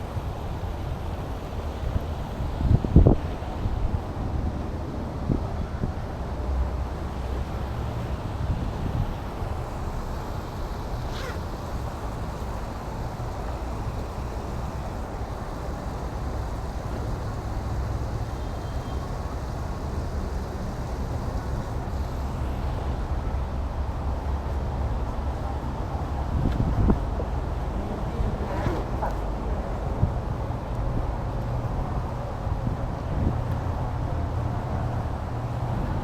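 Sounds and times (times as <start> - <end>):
wind buffeting microphone: 0.0 - 18.3, 19.4 - 36.0.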